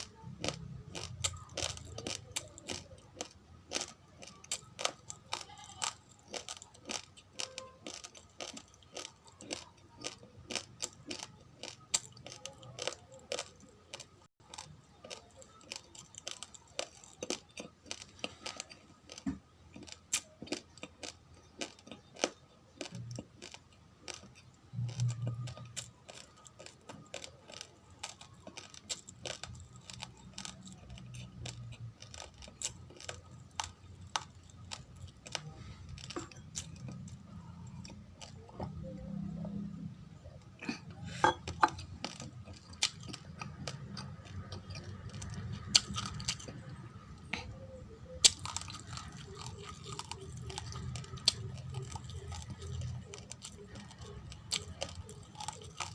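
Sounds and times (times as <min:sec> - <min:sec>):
raw rice being chewed: 0:00.0 - 0:55.9.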